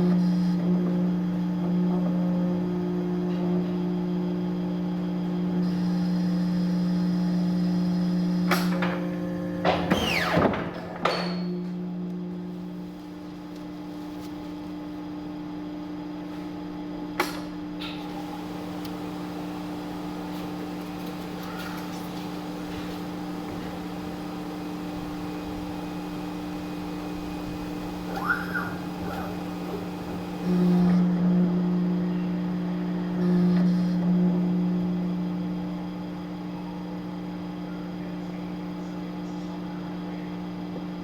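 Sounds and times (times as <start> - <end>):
guillotine motor humming: 0.0 - 38.0.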